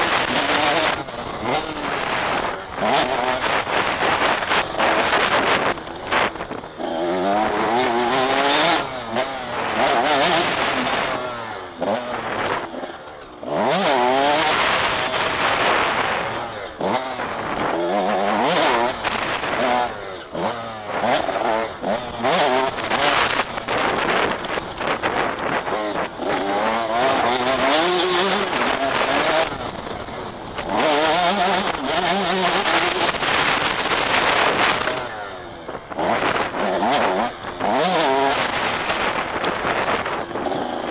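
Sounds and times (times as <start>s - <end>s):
motocross engine revving: 0.0s - 40.9s
steady rushing noise: 0.0s - 40.9s.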